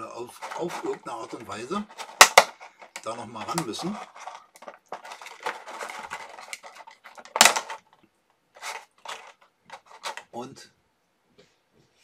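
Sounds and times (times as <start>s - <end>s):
plastic parts rustling and clicking: 0.2s - 10.3s
plastic parts clattering: 0.2s - 10.4s.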